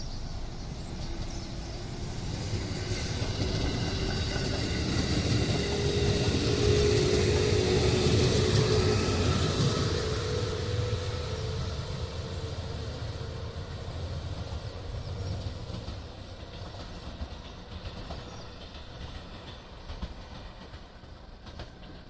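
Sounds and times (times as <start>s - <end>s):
electric train running on track: 0.0s - 22.0s.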